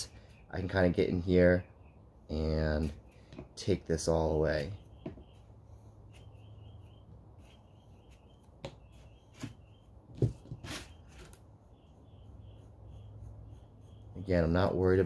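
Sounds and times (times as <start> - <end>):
faint repeated chirping: 0.0 - 2.4, 4.5 - 15.0.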